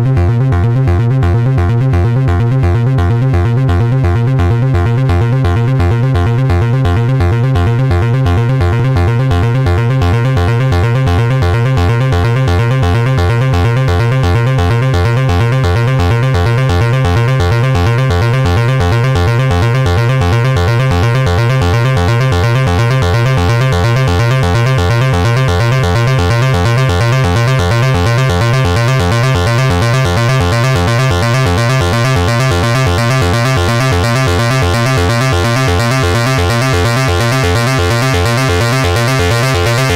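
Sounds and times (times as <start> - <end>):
synthesizer bass sequence: 0.0 - 39.9.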